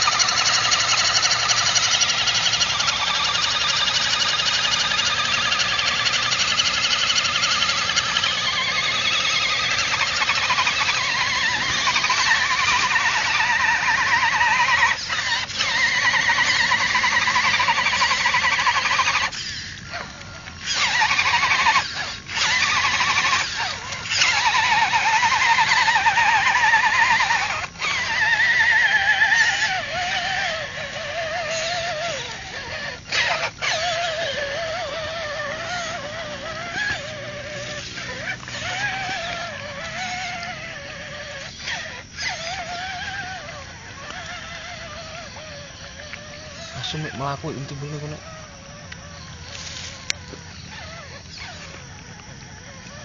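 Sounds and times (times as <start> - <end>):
electric motor whining: 0.0 - 53.0.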